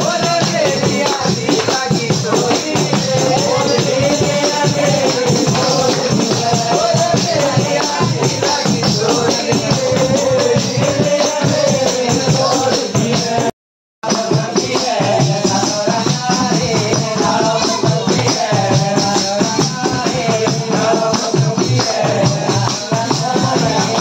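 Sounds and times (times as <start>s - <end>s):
folk music with fast beat: 0.0s - 24.0s.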